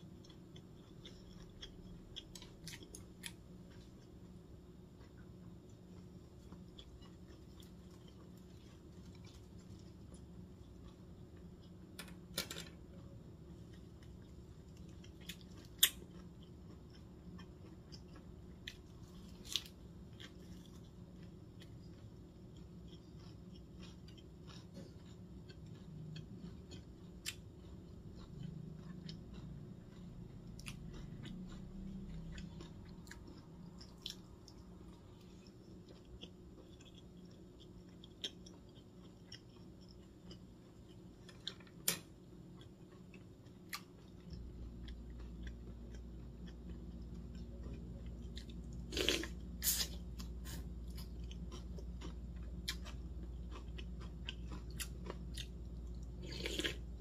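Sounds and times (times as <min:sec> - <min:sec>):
chewing and biting food: 0:00.0 - 0:04.2, 0:04.9 - 0:11.8, 0:13.4 - 0:57.0.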